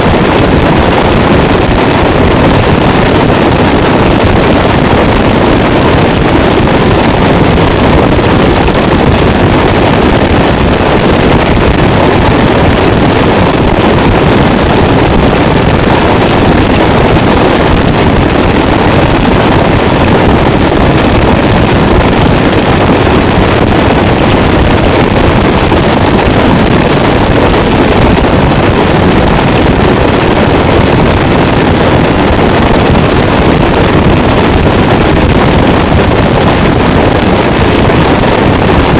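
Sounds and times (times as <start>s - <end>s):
dense distorted static: 0.0s - 38.9s.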